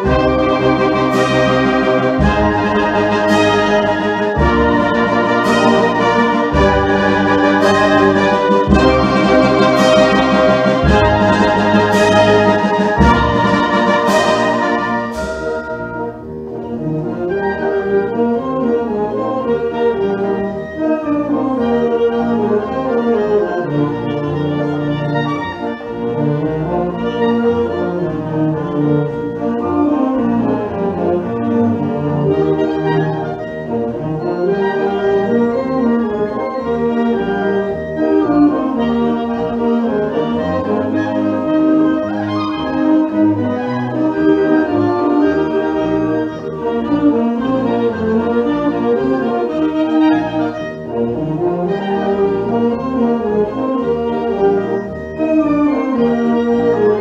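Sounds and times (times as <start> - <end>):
wind band playing a march: 0.0 - 57.0.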